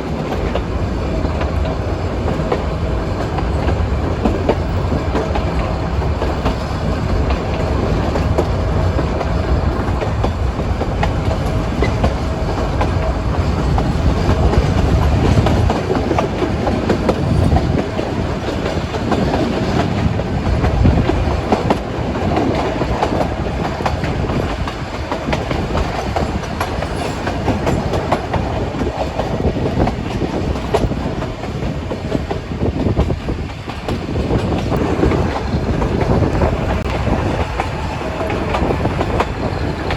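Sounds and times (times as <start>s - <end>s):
train carriage rumbling: 0.0s - 39.9s
wheels clacking over rail joints: 0.0s - 39.9s.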